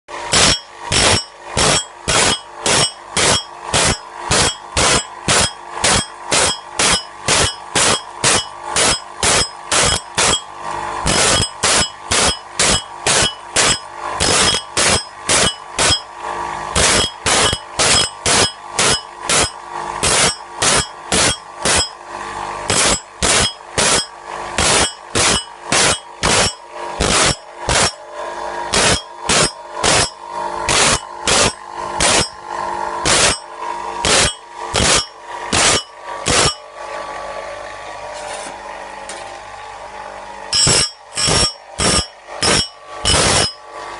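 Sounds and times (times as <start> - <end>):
motor hum: 0.1 - 43.9
grinding strokes on saw teeth: 0.3 - 16.1, 16.8 - 22.0, 22.6 - 28.0, 28.7 - 32.4, 33.0 - 36.6, 40.5 - 43.6.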